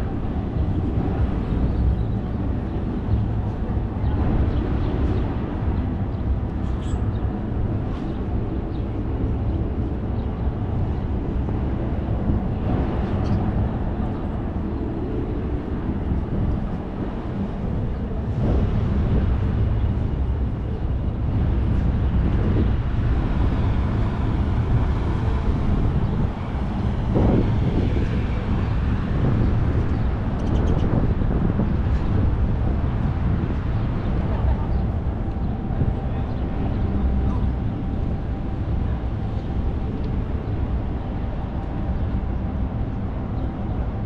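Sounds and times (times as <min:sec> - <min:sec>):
road traffic rumble: 0:00.0 - 0:44.0.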